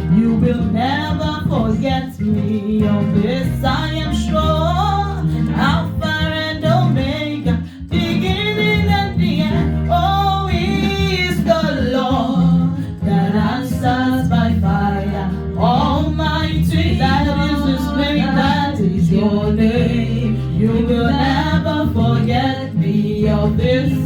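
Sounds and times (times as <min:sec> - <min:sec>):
gospel worship song: 0:00.0 - 0:24.0
held bass notes: 0:00.0 - 0:24.0.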